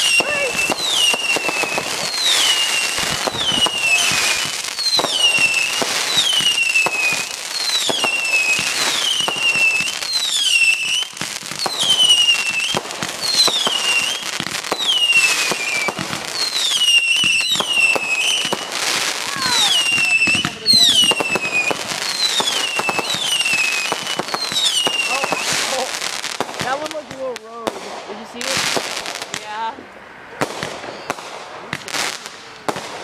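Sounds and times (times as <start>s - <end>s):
firework crackles and pops: 0.0s - 33.0s
whistling firework shots: 0.0s - 33.0s.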